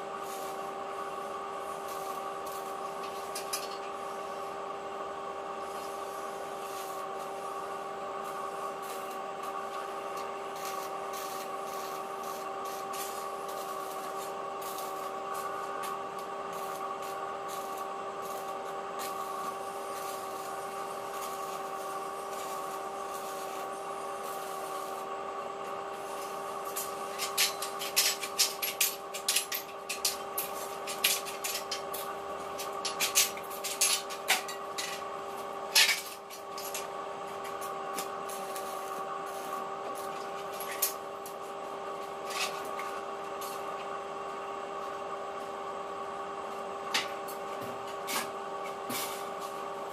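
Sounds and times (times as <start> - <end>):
arc welding hum and crackle: 0.0 - 49.9.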